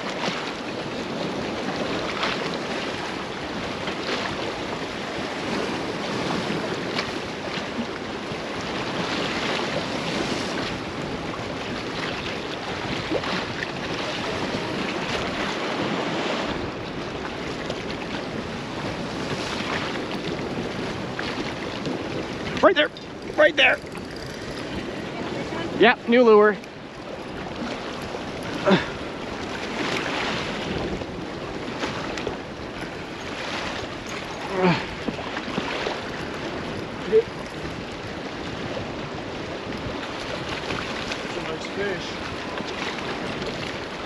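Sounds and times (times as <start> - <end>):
waves washing against rocks: 0.0 - 44.0
wind buffeting microphone: 0.0 - 44.0.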